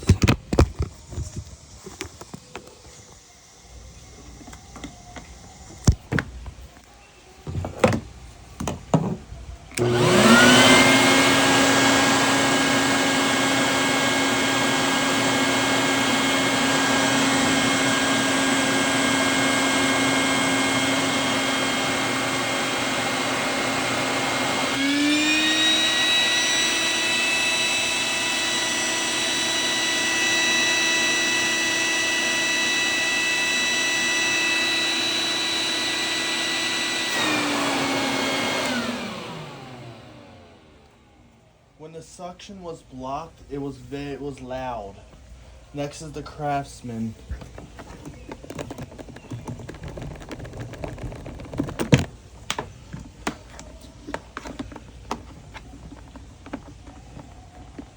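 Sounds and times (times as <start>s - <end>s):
shop vac motor whine: 0.0s - 41.8s, 45.9s - 57.9s.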